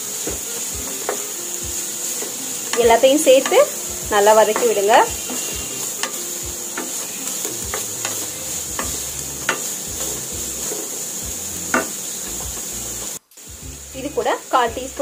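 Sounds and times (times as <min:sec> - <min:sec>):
food sizzling in hot oil: 0:00.0 - 0:15.0
spatula tapping and scraping pan: 0:00.2 - 0:12.7.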